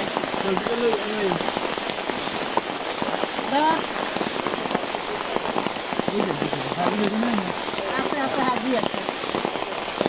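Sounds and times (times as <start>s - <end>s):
rain on mud and water: 0.0s - 10.0s
raindrops tapping on umbrella: 0.0s - 10.0s.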